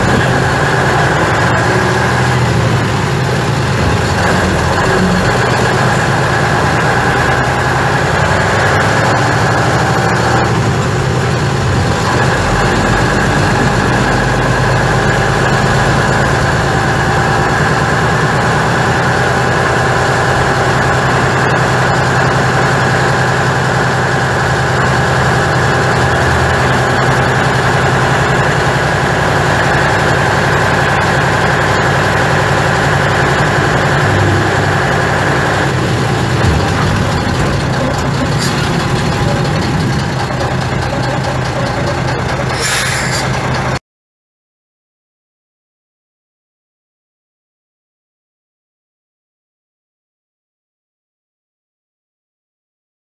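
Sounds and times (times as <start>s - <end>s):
bus diesel engine running: 0.0s - 43.8s.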